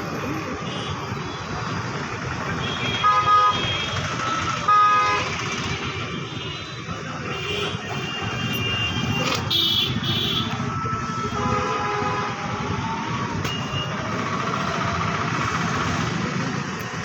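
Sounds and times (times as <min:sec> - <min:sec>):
passing road traffic: 0:00.0 - 0:17.0.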